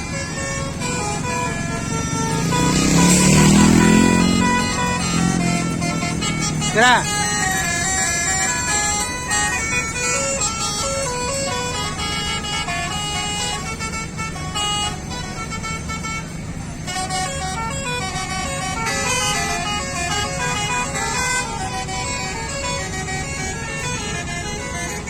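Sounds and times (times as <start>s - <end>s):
lorry engine running: 0.0s - 25.0s
musical air horn melody: 0.0s - 25.0s.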